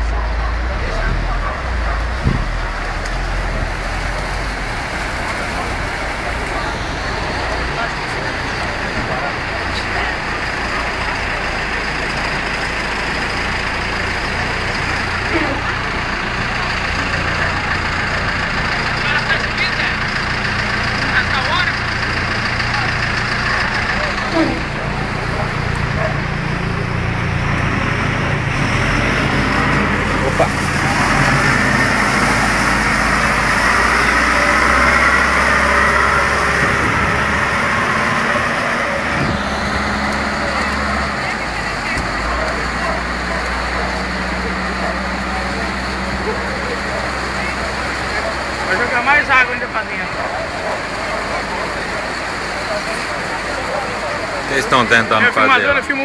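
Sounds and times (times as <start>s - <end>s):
diesel loader engine humming: 0.0s - 56.0s
floodwater rushing: 0.0s - 56.0s.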